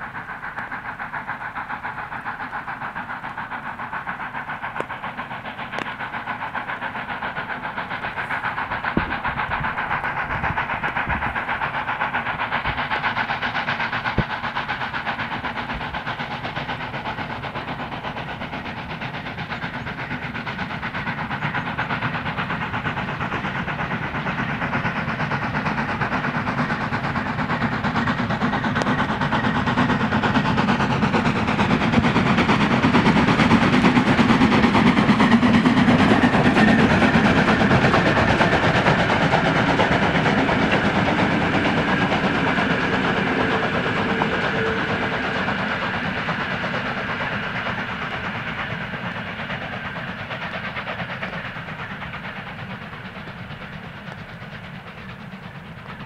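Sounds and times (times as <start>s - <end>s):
steam locomotive passing: 0.0s - 56.0s.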